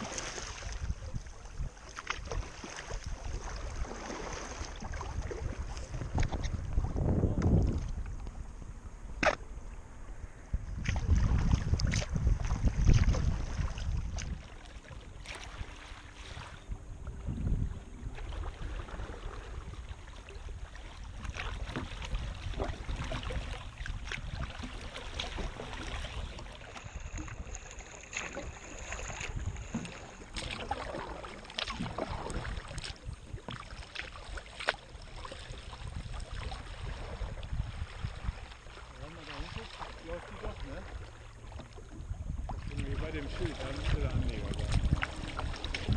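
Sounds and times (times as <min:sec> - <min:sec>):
paddle strokes splashing: 0:00.0 - 0:09.9, 0:10.8 - 0:45.9
wind buffeting microphone: 0:00.0 - 0:15.6, 0:16.2 - 0:34.0, 0:34.8 - 0:45.9.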